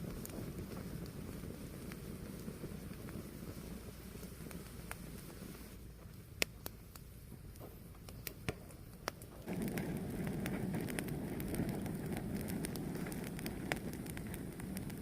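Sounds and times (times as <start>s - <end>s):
fire crackling and popping: 0.0s - 15.0s
rush of flames: 0.0s - 15.0s.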